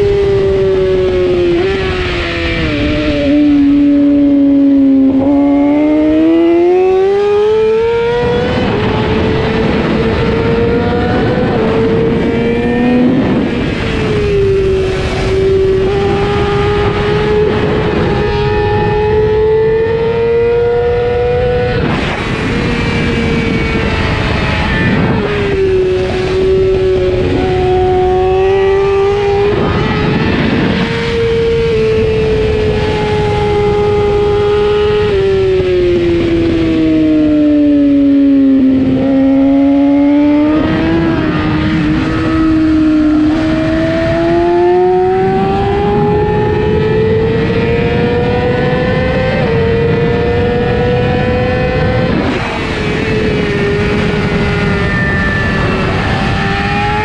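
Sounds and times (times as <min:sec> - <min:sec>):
race motorcycle engine: 0:00.0 - 0:57.0
wind rush: 0:00.0 - 0:57.0.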